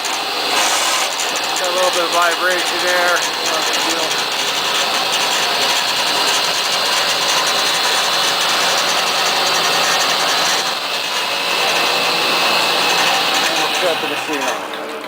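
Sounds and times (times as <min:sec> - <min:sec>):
band saw whirring hum: 0:00.0 - 0:15.0.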